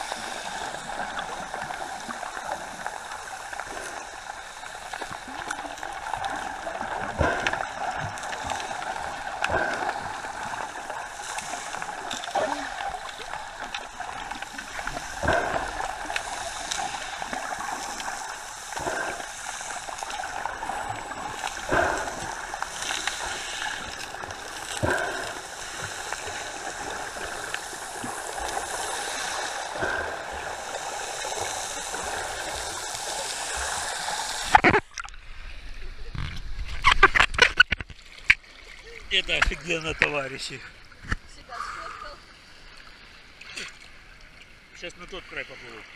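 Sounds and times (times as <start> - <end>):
sea water sloshing and splashing: 0.0 - 45.9.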